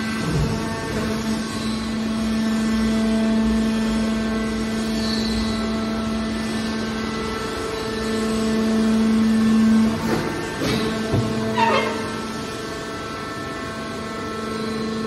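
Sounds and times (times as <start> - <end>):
hydraulic baler motor hum: 0.0 - 15.0.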